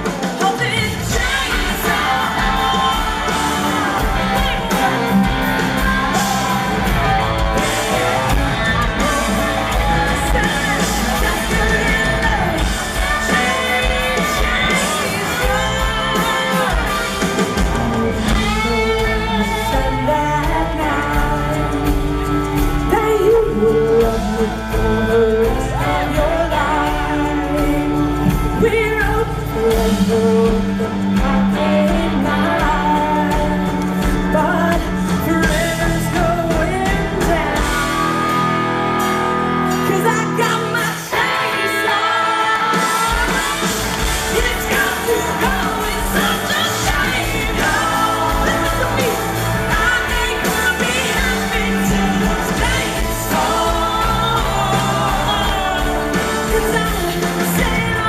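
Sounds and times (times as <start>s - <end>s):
lead vocal singing: 0.0s - 58.0s
live country-rock band: 0.0s - 58.0s.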